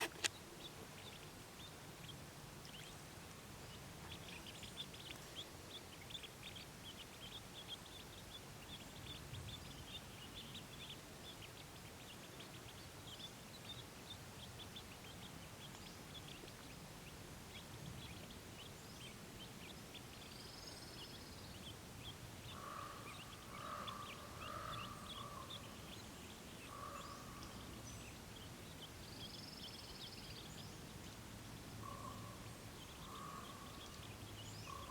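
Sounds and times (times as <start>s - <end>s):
ducklings peeping: 0.0s - 34.9s
outdoor background noise: 0.0s - 34.9s.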